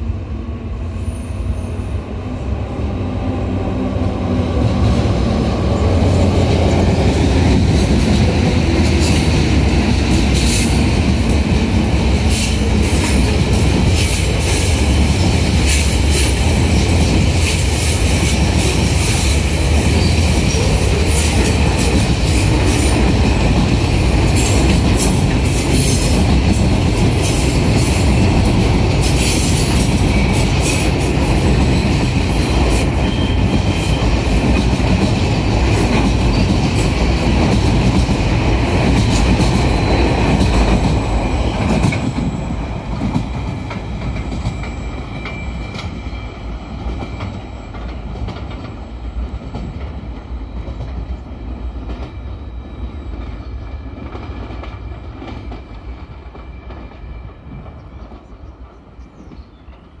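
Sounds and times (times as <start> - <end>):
train wheels clattering over track: 3.9 - 60.0.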